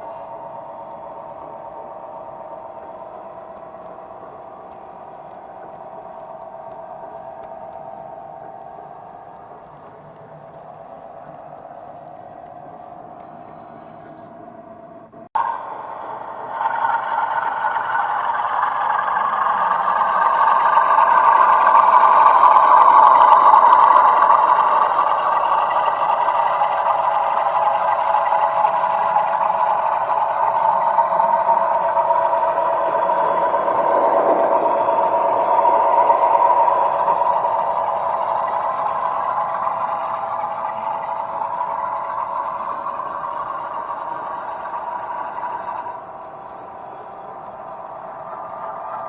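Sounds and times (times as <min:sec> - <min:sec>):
model locomotive engine sound: 0:00.0 - 0:49.0.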